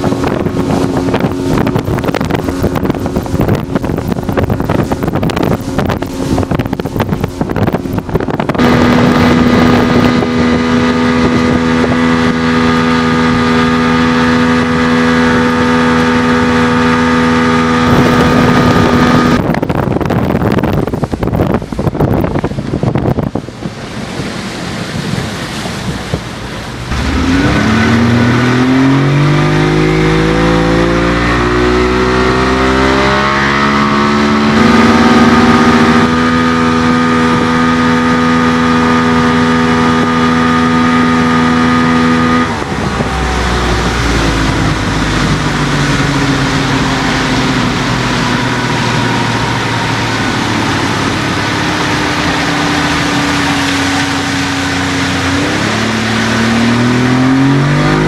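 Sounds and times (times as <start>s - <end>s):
outboard motor revving: 0.0s - 58.0s
rush of wind and water: 0.0s - 58.0s.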